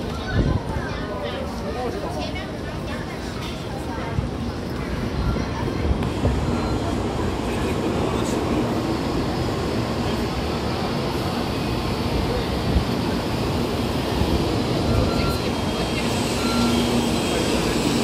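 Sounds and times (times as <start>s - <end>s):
train rushing past platform: 1.9s - 18.0s.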